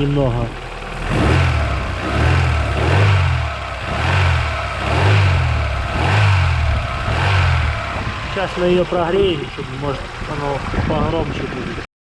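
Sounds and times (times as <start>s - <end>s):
car engine running cold: 0.0s - 11.9s.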